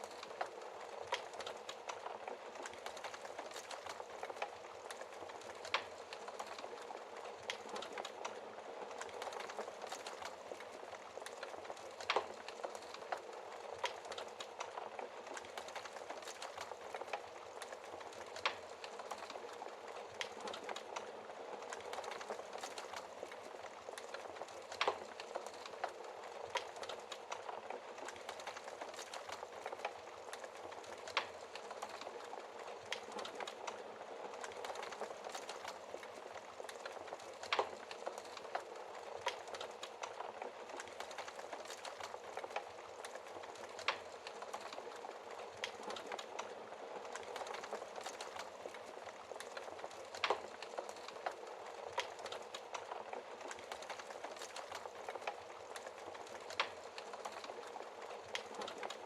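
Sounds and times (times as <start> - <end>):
wood fire crackling: 0.0 - 59.0
burning wood popping: 0.1 - 59.0.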